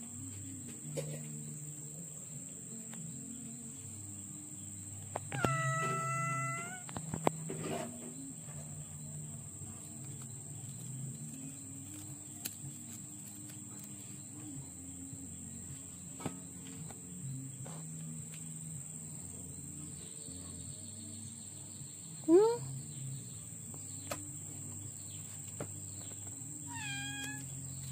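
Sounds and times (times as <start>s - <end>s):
high-pitched insect chorus: 0.0s - 27.9s
quiet background music: 0.0s - 27.9s.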